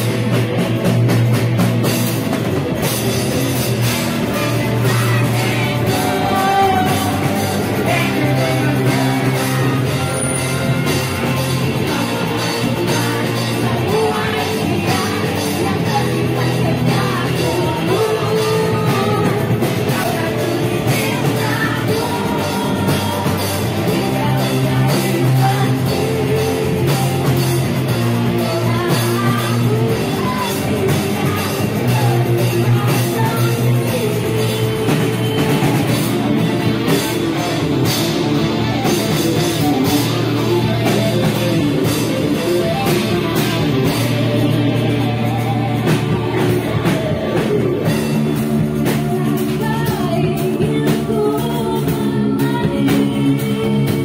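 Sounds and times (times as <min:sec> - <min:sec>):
bass guitar: 0:00.0 - 0:54.0
drum kit: 0:00.0 - 0:54.0
electric guitar: 0:00.0 - 0:54.0
crowd singing along: 0:02.9 - 0:54.0
person singing: 0:03.7 - 0:54.0.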